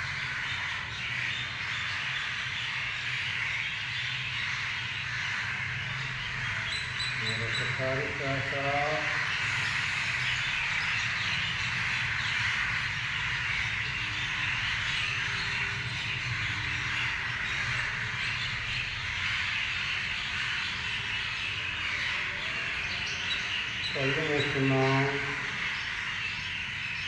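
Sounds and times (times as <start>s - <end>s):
birds chirping chorus: 0.0s - 27.0s.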